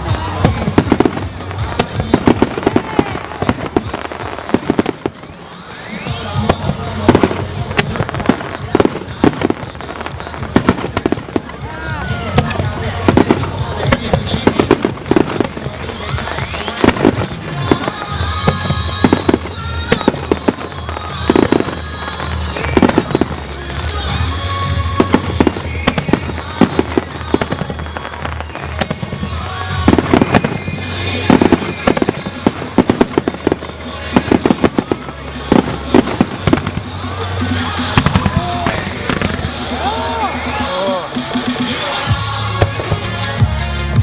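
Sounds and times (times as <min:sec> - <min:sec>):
fireworks bursting: 0:00.0 - 0:44.0
music over loudspeakers: 0:00.0 - 0:44.0.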